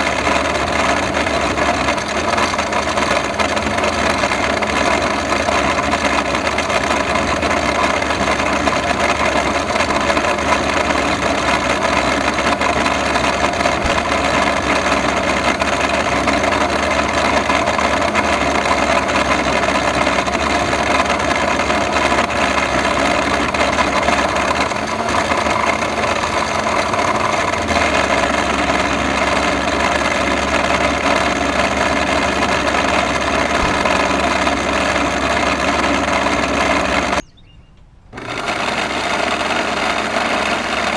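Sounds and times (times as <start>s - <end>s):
vacuum cleaner motor running: 0.0s - 37.2s, 38.1s - 40.9s.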